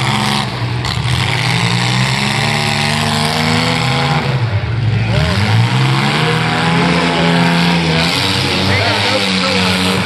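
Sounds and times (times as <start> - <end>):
truck engines revving: 0.0 - 10.0.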